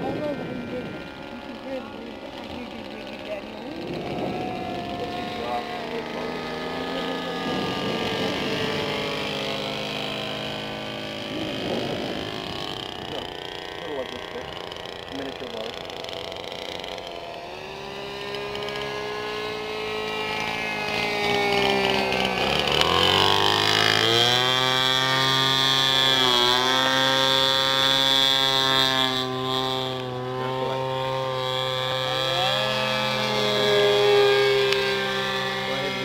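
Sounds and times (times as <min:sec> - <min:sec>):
model airplane engine and propeller: 0:00.0 - 0:36.0.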